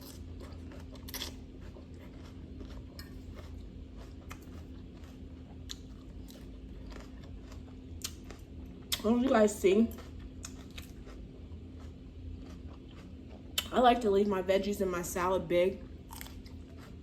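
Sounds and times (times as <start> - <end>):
chewing crunchy raw vegetables: 0.0 - 14.1, 15.8 - 17.0
faint steady hum: 0.0 - 17.0.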